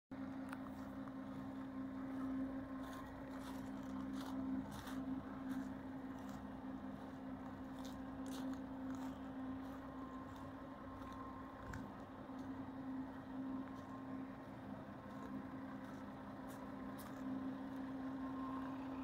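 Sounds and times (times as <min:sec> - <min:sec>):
low engine hum: 0:00.1 - 0:19.0
footsteps on gravel: 0:00.6 - 0:12.6, 0:13.6 - 0:17.9.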